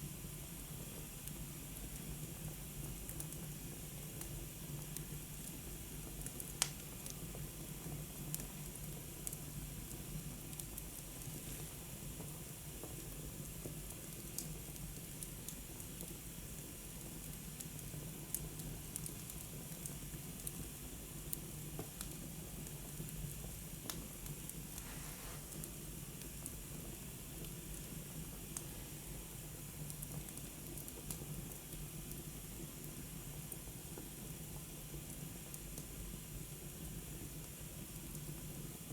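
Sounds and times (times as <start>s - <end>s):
wood fire crackling: 1.2s - 36.6s.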